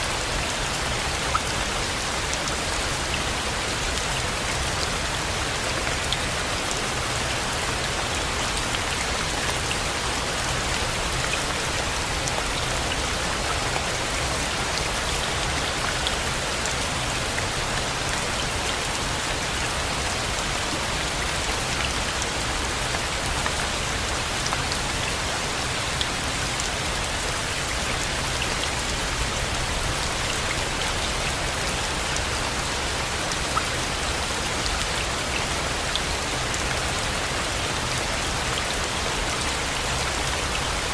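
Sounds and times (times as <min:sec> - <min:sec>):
rain falling on a surface: 0:00.0 - 0:40.9.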